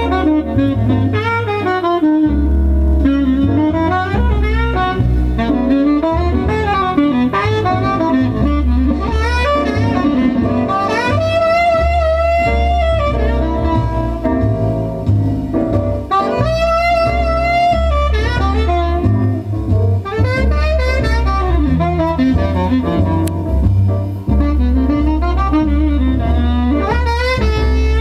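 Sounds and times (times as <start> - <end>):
alto saxophone: 0.0 - 28.0
walking double bass: 0.0 - 28.0.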